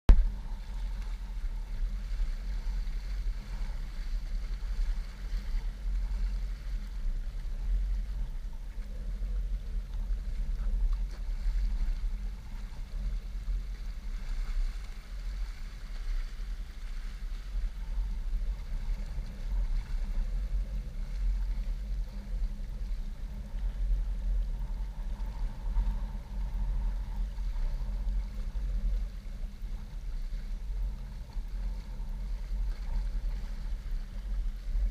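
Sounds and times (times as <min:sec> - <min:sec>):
waves lapping against rocks: 0:00.1 - 0:34.9
wind buffeting microphone: 0:00.1 - 0:34.9.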